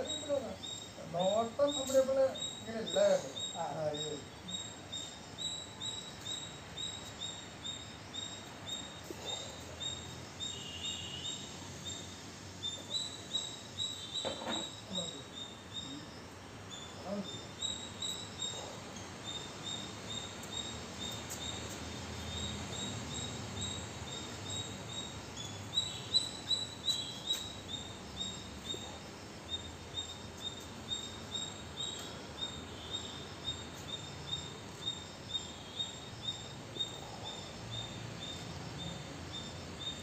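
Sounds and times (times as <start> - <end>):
bird chirping: 0.0 - 40.0.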